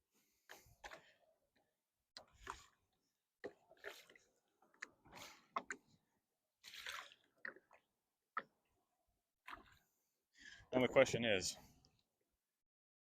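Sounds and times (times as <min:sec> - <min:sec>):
paddle splashes and drips: 0:00.2 - 0:11.1.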